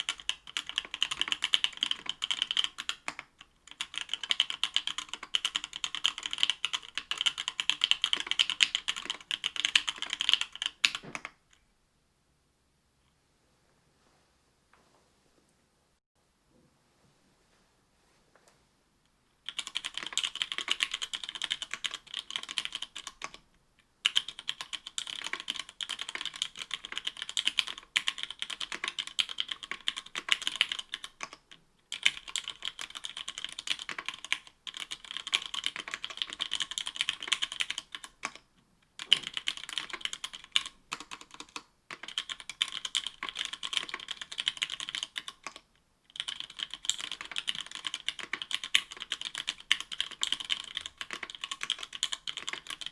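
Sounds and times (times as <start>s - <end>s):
fast typing on mechanical keyboard: 0.0s - 11.3s, 19.4s - 23.4s, 24.0s - 38.4s, 39.0s - 52.9s.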